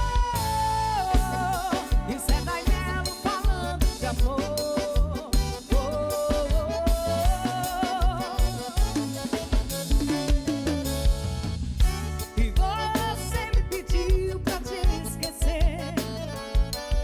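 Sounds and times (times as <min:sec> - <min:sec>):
bass line: 0:00.0 - 0:17.0
drum kit steady beat: 0:00.0 - 0:17.0.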